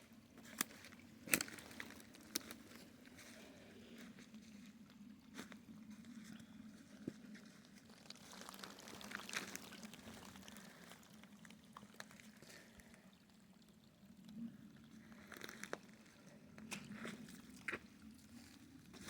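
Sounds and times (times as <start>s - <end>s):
water trickling through channel: 0.0s - 19.0s.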